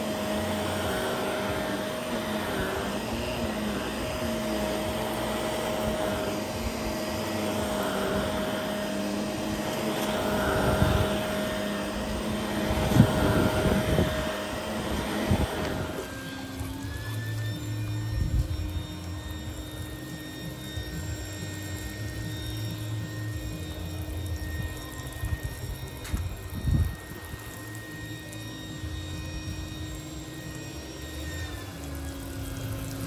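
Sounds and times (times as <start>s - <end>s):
upright vacuum cleaner running: 0.0s - 33.0s.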